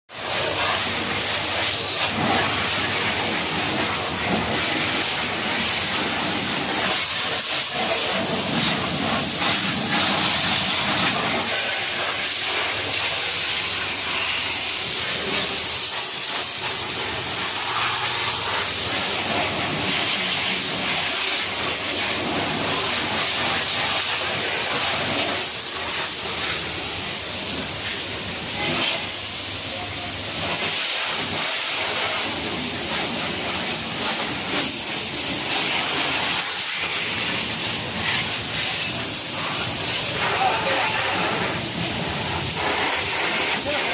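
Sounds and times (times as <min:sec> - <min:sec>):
pressure washer spraying: 0:00.1 - 0:43.9.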